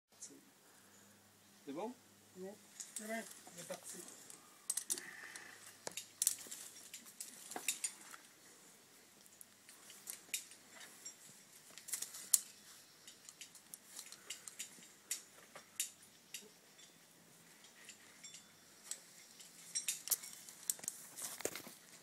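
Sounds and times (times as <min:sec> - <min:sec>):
carabiners clinking: 0:02.7 - 0:08.3, 0:09.3 - 0:21.4.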